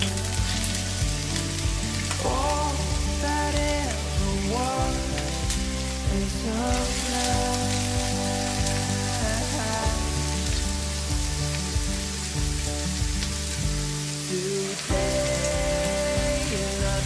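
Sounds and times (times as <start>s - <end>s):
background music: 0.0s - 17.0s
onion sizzling in frying pan: 0.0s - 17.0s.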